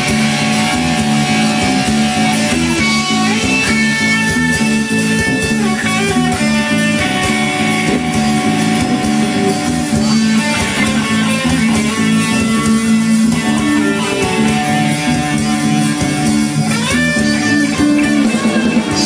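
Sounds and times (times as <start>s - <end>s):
guitar chords: 0.0s - 19.0s
steady bass line: 0.0s - 19.0s.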